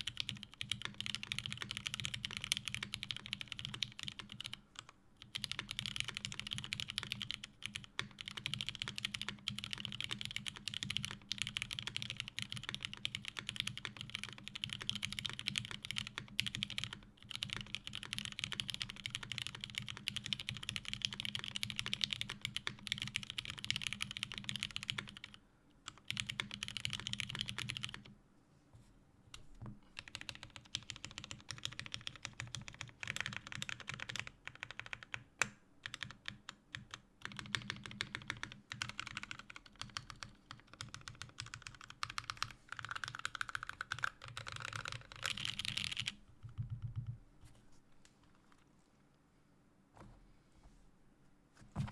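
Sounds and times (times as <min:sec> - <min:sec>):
fast mechanical keyboard typing: 0:00.0 - 0:28.1, 0:30.0 - 0:47.2.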